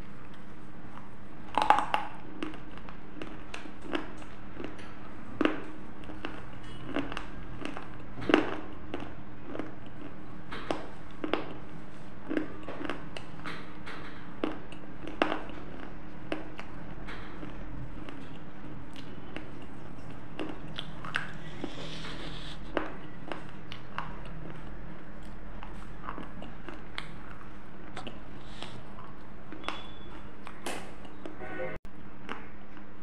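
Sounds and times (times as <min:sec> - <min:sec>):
chewing crunchy clay: 0:00.1 - 0:31.2.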